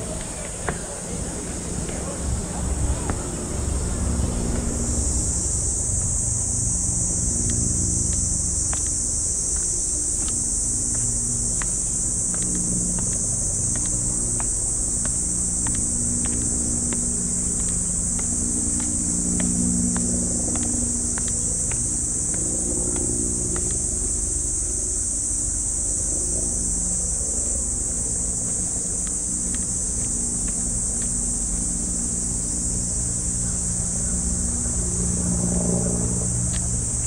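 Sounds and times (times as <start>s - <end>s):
light footsteps: 0.0s - 32.5s
cicadas droning: 0.0s - 37.0s
low traffic hum: 0.0s - 37.0s.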